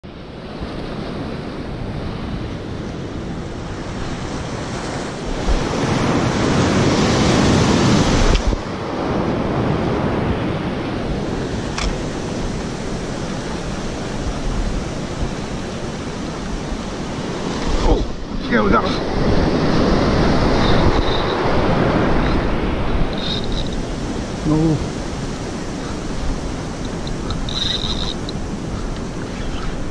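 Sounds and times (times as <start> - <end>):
ocean surf breaking over reef: 0.0 - 29.9.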